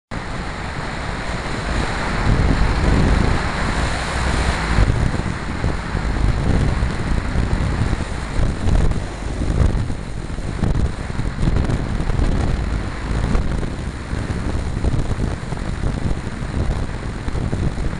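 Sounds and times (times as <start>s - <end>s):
wind buffeting microphone: 0.1s - 17.9s.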